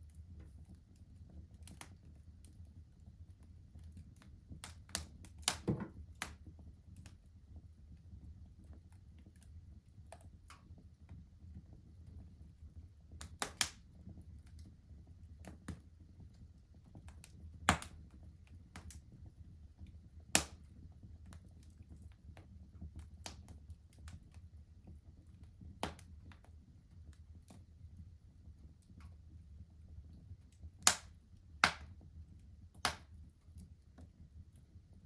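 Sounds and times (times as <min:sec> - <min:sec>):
low steady burning sound: 0:00.0 - 0:35.0
wood fire crackling and popping: 0:00.0 - 0:35.0.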